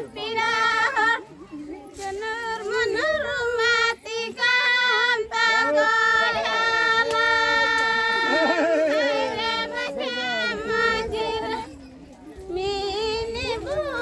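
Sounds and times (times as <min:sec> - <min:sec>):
women singing in high voices: 0:00.0 - 0:01.3, 0:01.9 - 0:11.8, 0:12.4 - 0:14.0.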